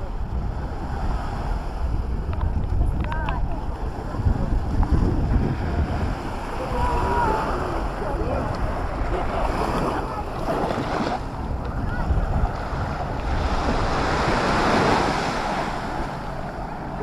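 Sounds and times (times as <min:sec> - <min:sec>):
waves washing onto beach: 0:00.0 - 0:17.0
wind rumbling on microphone: 0:00.0 - 0:17.0.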